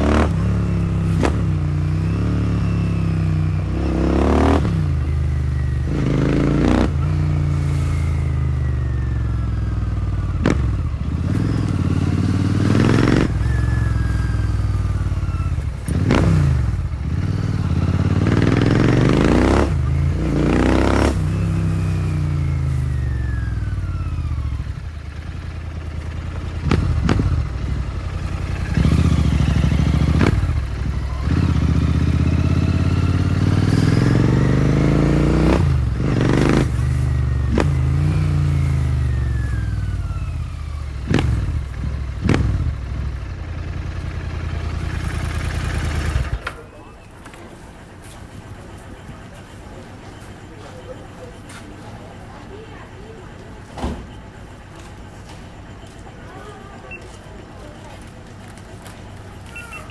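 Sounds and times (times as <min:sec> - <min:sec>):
motorcycle engine revving: 0:00.0 - 0:51.4.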